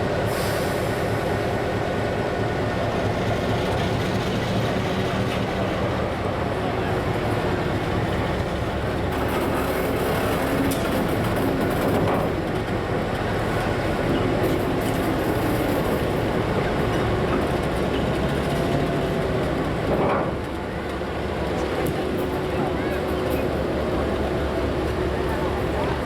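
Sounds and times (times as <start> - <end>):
low diesel engine hum: 0.0 - 26.0
train rail noise: 0.0 - 26.0.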